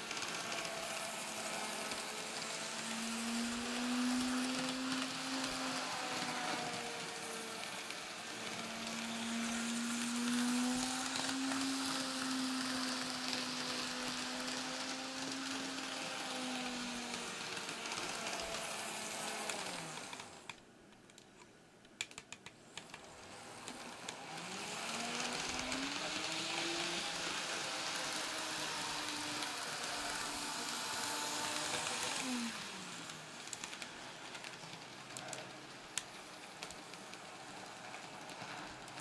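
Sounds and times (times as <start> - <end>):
model train motor whine: 0.0 - 20.6, 22.8 - 39.0
small wheels whirring on track: 0.0 - 20.6, 22.7 - 39.0.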